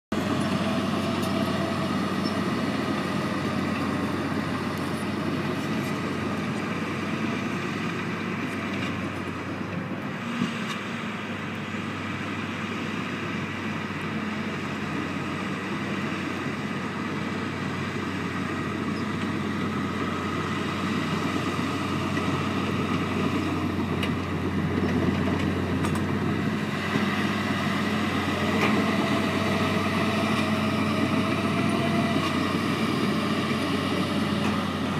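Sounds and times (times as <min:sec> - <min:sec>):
dozer engine drone: 0:00.1 - 0:34.9
skid-steer loader working: 0:00.1 - 0:34.9.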